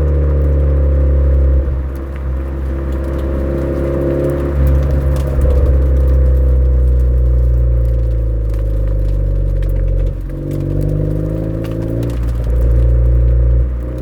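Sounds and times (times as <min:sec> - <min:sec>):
car engine through exhaust: 0:00.0 - 0:14.0.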